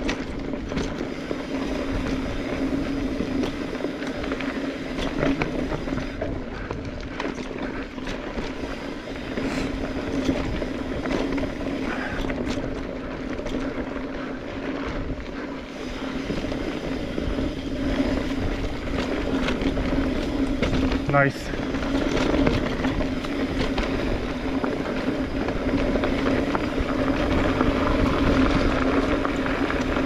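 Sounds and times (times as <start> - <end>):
bike rattling clicks and knocks: 0.0 - 30.0
bike tyres humming on dirt: 0.0 - 30.0
wind rush on microphone: 0.0 - 30.0.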